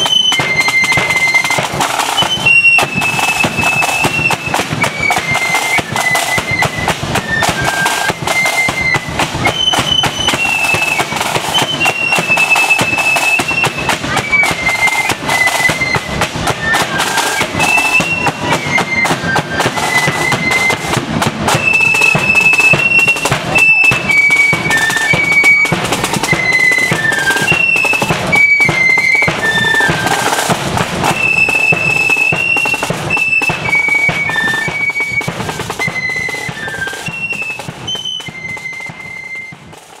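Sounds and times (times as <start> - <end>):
flutes playing high melody: 0.0 - 40.0
side drum beats: 0.0 - 40.0.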